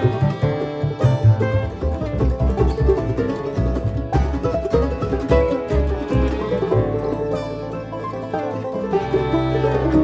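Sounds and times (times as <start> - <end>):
bass line: 0.0 - 10.0
upbeat banjo-like music: 0.0 - 10.0.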